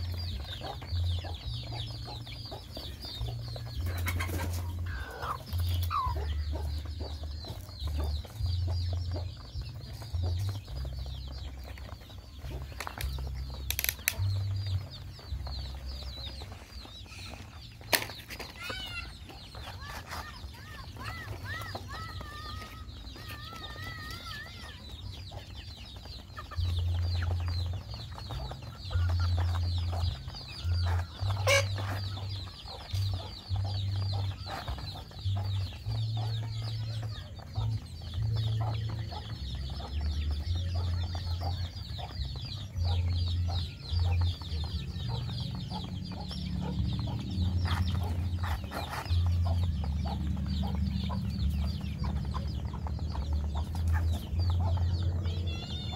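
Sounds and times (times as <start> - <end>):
chicks peeping: 0.0 - 55.9
hens clucking: 0.0 - 55.9.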